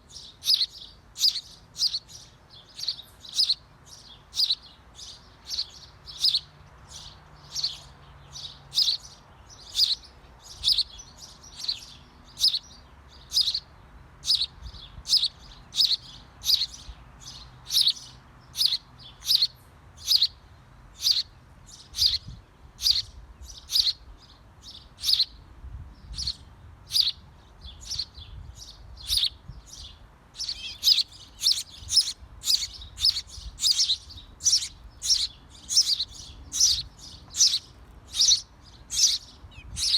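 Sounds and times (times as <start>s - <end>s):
bird chirping: 0.0s - 25.4s, 26.0s - 39.9s.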